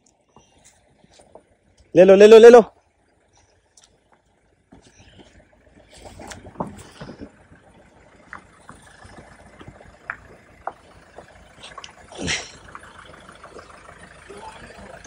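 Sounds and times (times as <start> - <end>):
low diesel engine rumble: 0.0 - 15.0
tyres crunching on dirt: 0.0 - 15.0.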